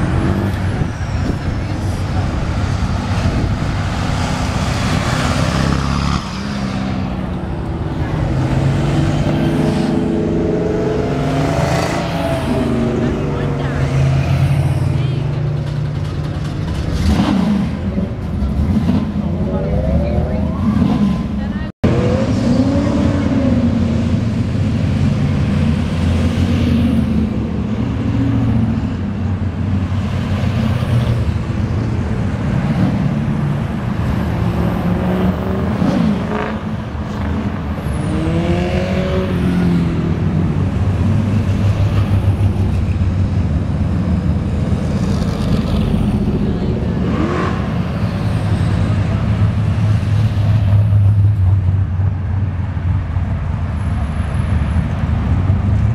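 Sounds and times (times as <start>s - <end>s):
car engines rumbling past: 0.0s - 55.9s.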